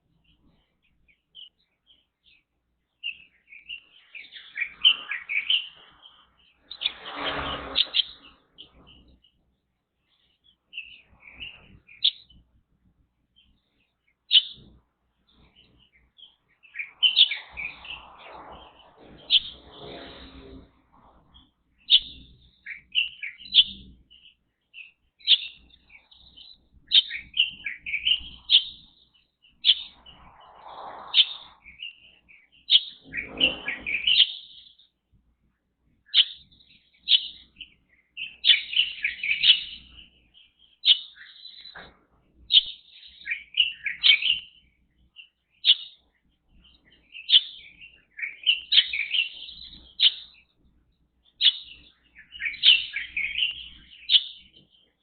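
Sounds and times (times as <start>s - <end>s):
low rough bird sounds: 0.0s - 55.0s
songbirds chirping: 0.0s - 55.0s.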